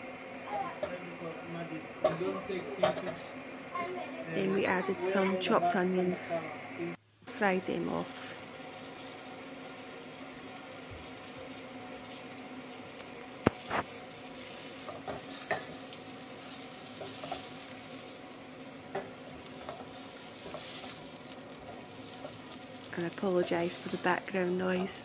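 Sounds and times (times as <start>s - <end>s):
onions sizzling in a pan: 0.0s - 25.0s.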